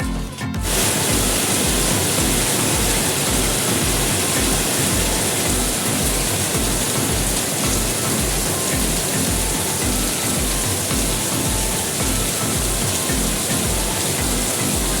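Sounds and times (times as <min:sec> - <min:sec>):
heavy rain hiss: 0:00.0 - 0:15.0
pulsing background music beat: 0:00.0 - 0:15.0.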